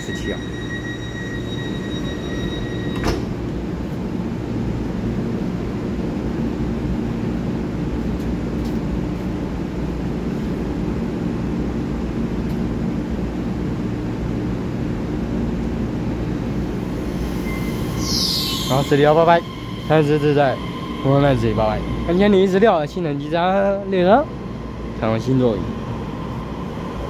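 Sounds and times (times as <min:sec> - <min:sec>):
electric train humming: 0:00.0 - 0:27.0.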